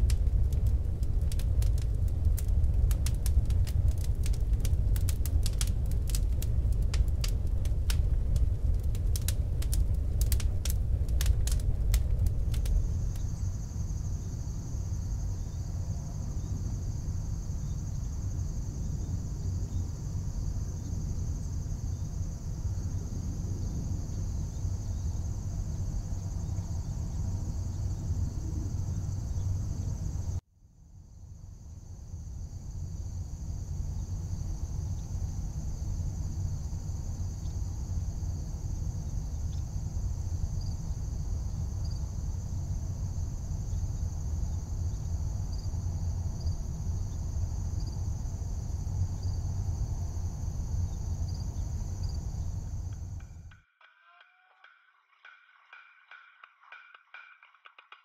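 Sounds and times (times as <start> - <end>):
low background rumble: 0.0 - 30.4, 31.1 - 53.6
high insect drone: 9.1 - 58.0.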